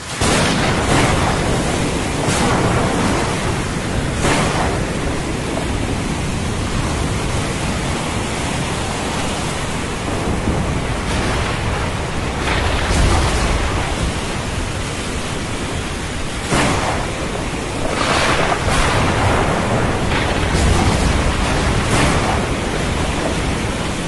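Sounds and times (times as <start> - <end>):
ocean surf: 0.0 - 24.0
rain hiss: 0.0 - 24.0
thunder rumble: 0.0 - 24.0.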